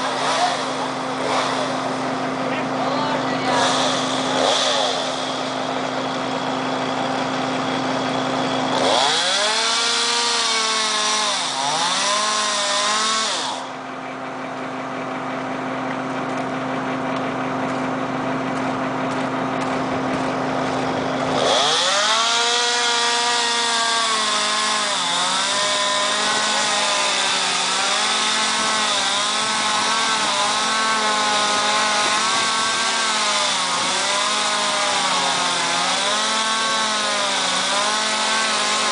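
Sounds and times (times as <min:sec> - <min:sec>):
steady low drone: 0:00.0 - 0:09.6, 0:13.5 - 0:35.9
chainsaw cutting wood: 0:00.0 - 0:38.9.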